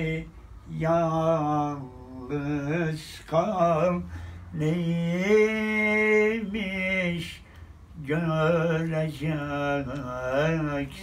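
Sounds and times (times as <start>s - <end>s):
man singing held notes: 0.0s - 11.0s.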